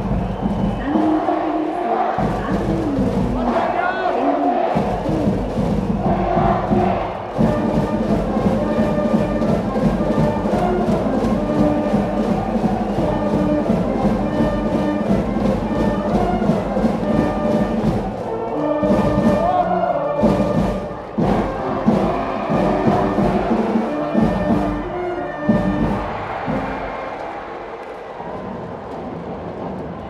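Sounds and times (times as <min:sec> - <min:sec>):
steady drumbeat: 0:00.0 - 0:30.0
brass band playing: 0:00.3 - 0:27.4.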